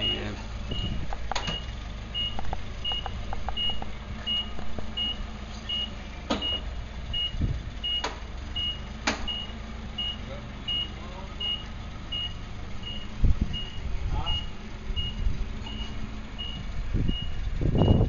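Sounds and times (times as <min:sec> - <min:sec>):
forklift engine humming: 0:00.0 - 0:18.0
forklift warning beeper: 0:00.0 - 0:18.0.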